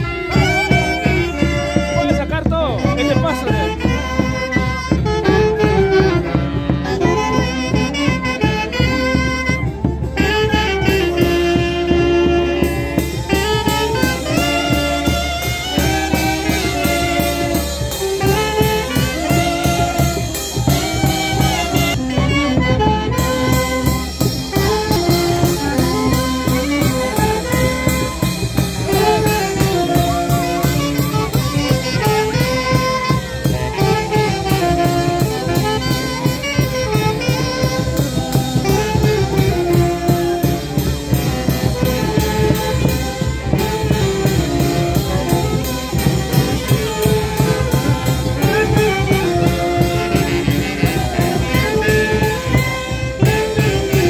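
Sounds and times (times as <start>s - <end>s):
steady drum beat: 0.0s - 54.0s
street band playing dance tune: 0.0s - 54.0s
wind instruments melody: 0.0s - 54.0s.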